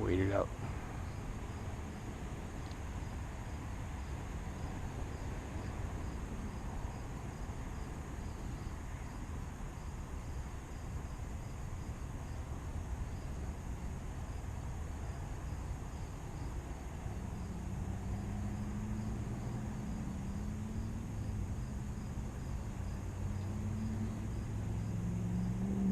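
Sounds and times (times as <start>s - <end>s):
insect chirping: 0.0s - 25.9s.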